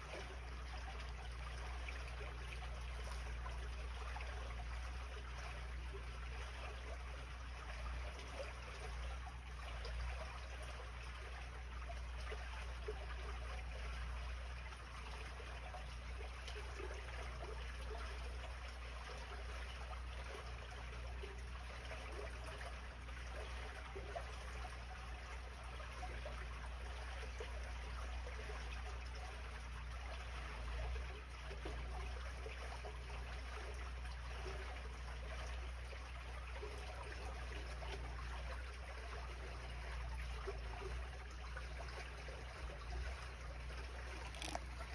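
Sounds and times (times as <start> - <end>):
water trickling in gutter: 0.0 - 44.9.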